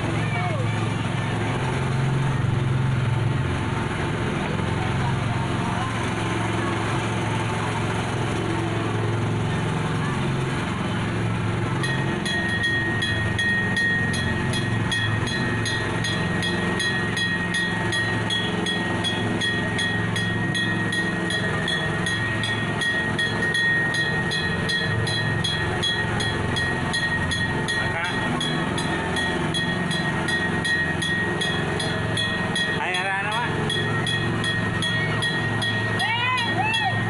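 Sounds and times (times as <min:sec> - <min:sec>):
small train running: 0:00.0 - 0:37.0.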